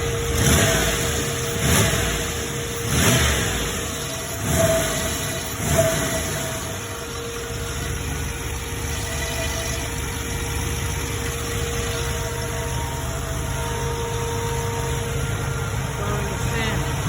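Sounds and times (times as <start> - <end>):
engine idling: 0.0 - 17.0
thin steady tone: 0.0 - 17.0.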